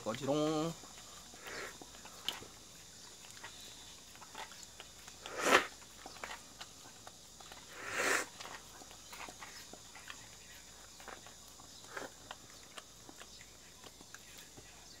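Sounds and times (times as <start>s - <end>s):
dog licking and lapping: 0.0s - 15.0s.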